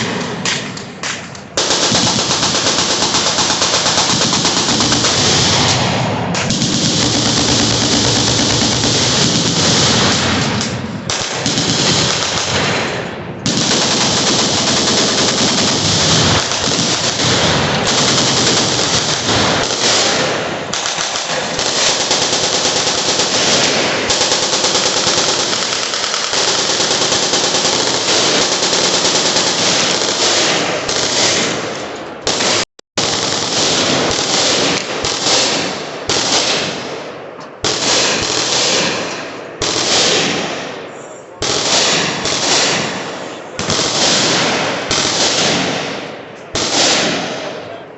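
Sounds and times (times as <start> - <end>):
machine guns firing: 0.0 - 47.8.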